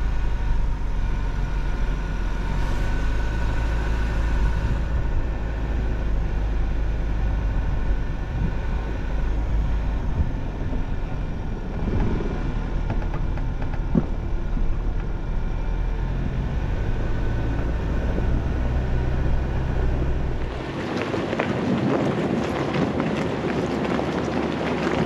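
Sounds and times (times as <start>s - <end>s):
gravel crackling under tyres: 0.0s - 25.0s
low engine drone: 0.0s - 25.0s
wind on microphone: 0.0s - 25.0s.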